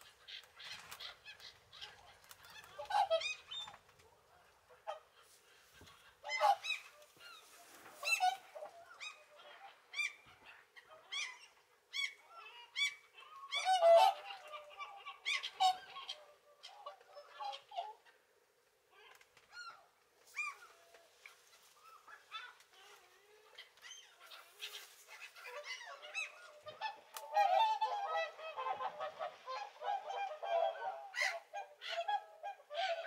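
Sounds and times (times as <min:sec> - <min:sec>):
swans honking: 0:00.0 - 0:03.8, 0:04.7 - 0:10.5, 0:12.4 - 0:18.1, 0:20.4 - 0:33.0.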